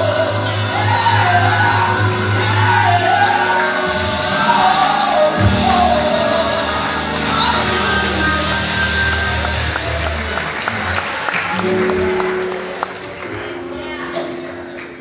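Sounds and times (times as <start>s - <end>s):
person singing gospel: 0.0s - 12.2s
congregation shouting: 0.0s - 12.6s
low instrumental accompaniment: 0.0s - 15.0s.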